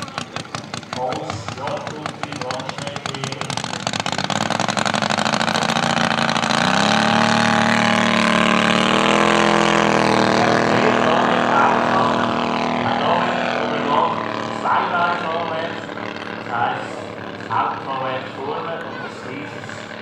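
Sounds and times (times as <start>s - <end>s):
model plane engine revving: 0.0s - 20.0s.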